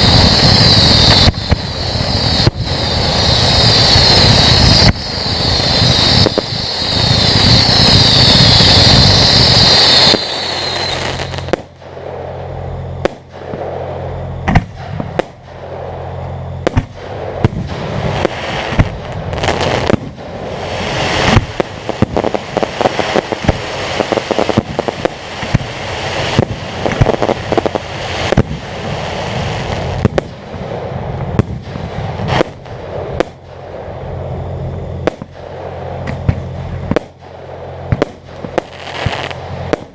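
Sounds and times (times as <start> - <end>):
fireworks bangs and crackles: 0.0 - 39.9
high whine with hiss: 0.0 - 39.9.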